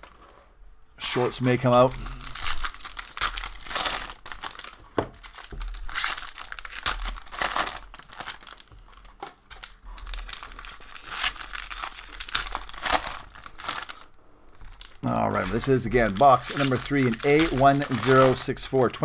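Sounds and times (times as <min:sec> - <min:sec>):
foil wrappers crinkling: 0:01.6 - 0:19.0.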